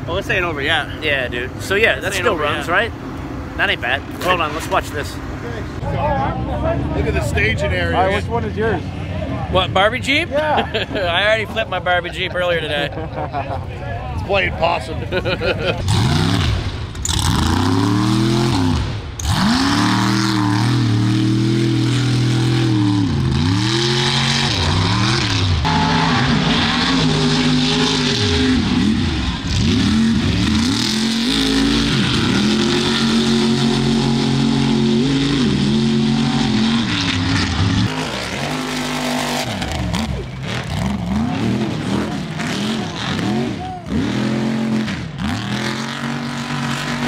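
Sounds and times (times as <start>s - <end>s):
buggy engine revving: 0.0s - 13.6s, 14.8s - 47.0s.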